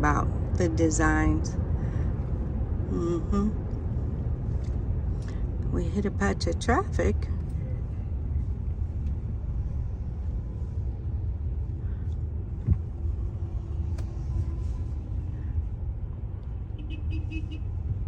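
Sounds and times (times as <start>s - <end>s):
car rumble from inside: 0.0s - 18.0s.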